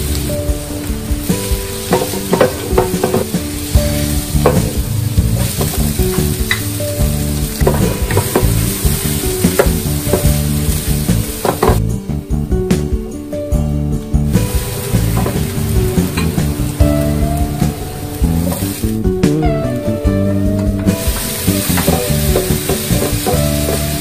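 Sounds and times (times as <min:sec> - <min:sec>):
garlic and onion sizzling in oil: 0:00.0 - 0:11.9, 0:14.3 - 0:19.9, 0:20.9 - 0:24.0
background music: 0:00.0 - 0:24.0.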